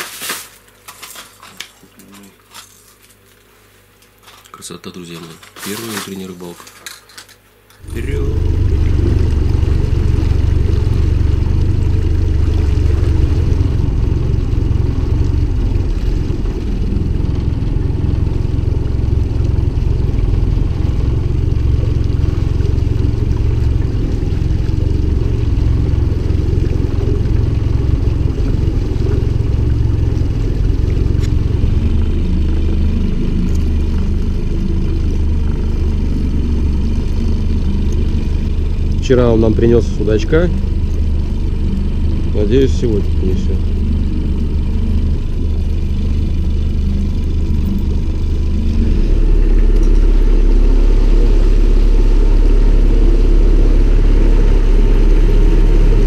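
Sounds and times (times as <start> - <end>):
outboard motor running: 7.8 - 56.0.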